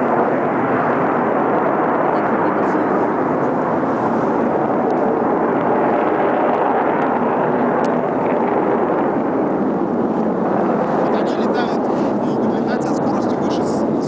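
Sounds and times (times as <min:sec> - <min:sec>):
jet engines roaring overhead: 0:00.0 - 0:14.0.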